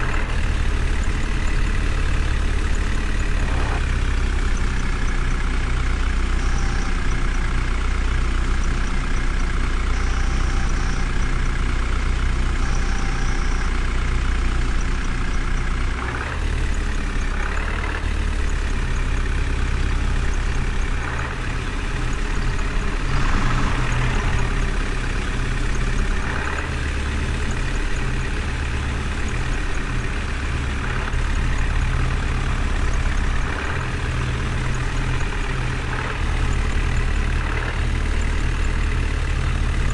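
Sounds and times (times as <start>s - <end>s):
heavy vehicle engine idling: 0.0s - 39.9s.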